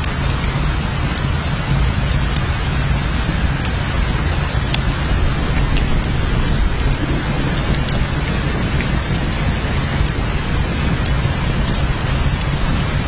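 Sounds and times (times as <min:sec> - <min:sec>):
heavy rain hissing: 0:00.0 - 0:13.0
raindrop ticks: 0:00.0 - 0:13.0.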